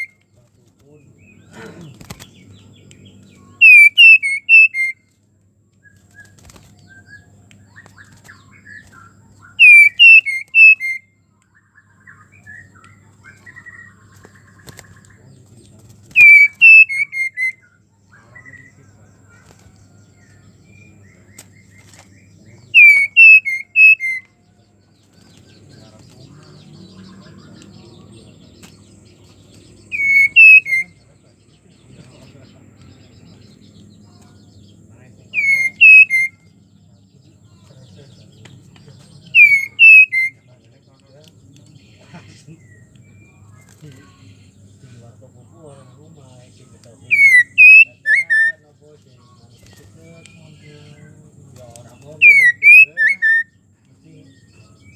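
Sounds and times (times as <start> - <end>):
soft bird chirps: 0.0 - 54.9.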